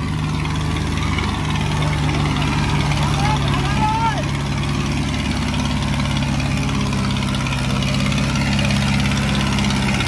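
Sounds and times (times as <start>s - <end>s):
diesel tractor engines running: 0.0s - 10.0s.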